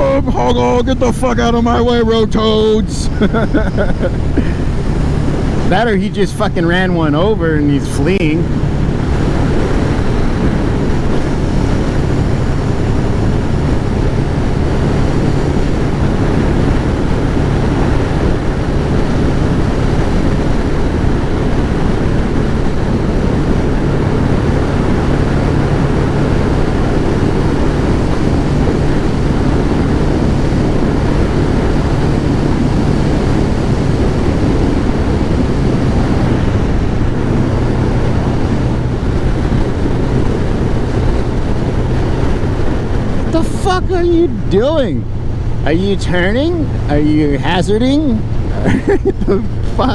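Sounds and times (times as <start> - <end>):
motorcycle engine cruising: 0.0 - 49.9
wind on microphone: 0.0 - 49.9.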